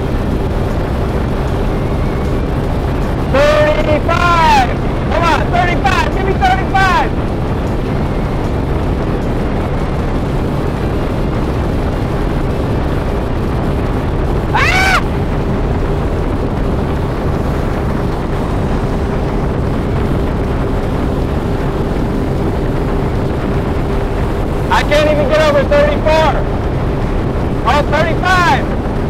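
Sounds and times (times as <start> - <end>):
outboard motor running: 0.0 - 29.0
wind noise on microphone: 0.0 - 29.0.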